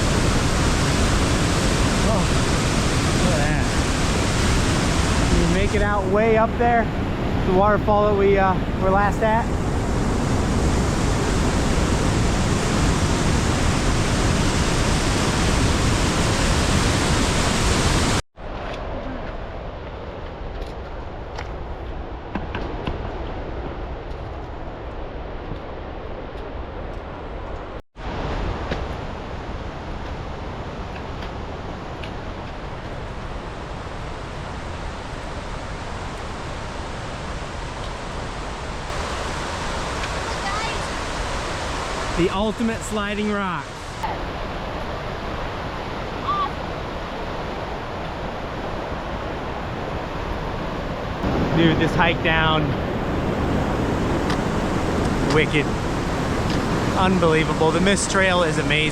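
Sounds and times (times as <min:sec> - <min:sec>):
waterfall and river rushing: 0:00.0 - 0:18.2, 0:28.0 - 0:58.9.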